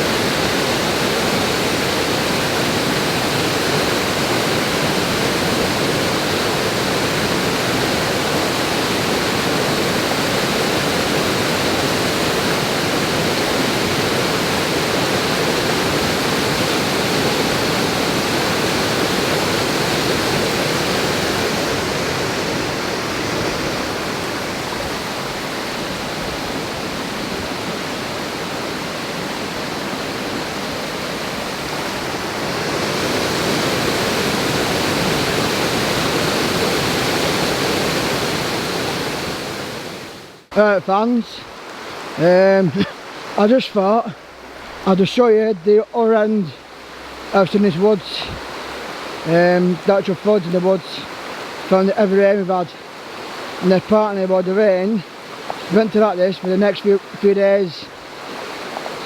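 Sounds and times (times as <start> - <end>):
flooded stream rushing: 0.0 - 59.0.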